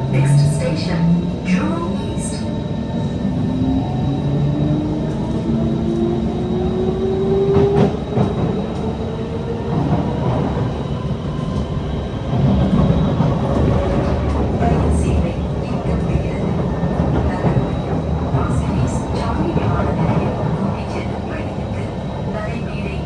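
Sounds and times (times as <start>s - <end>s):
train wheel and track rumble: 0.0s - 23.0s.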